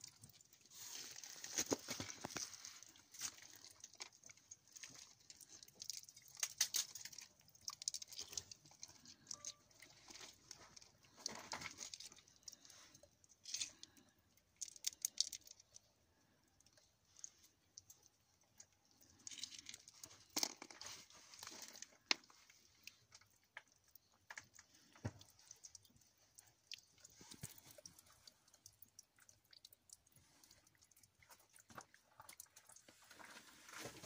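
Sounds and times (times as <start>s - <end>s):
fingers crunching wet gritty sediment: 0.0s - 33.2s.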